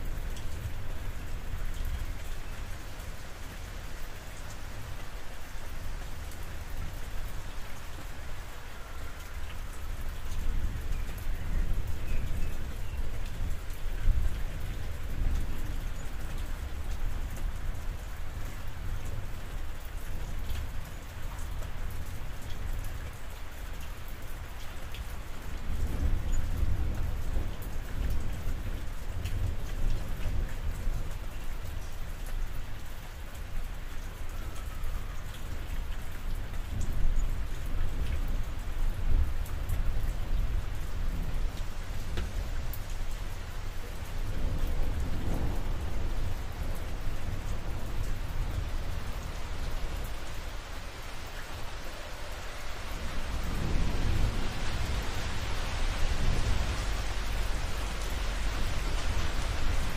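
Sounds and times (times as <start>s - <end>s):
rain on a roof: 0.0s - 59.9s.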